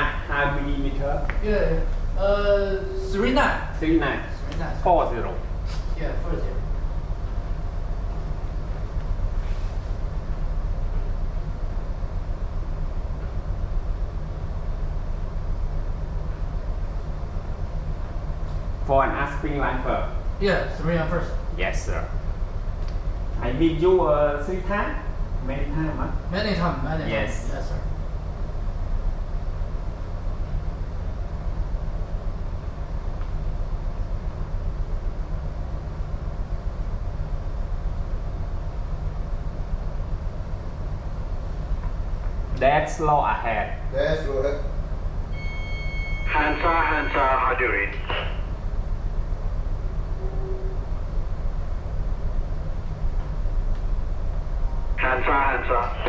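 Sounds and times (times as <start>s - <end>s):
ship machinery rumble: 0.0s - 56.0s.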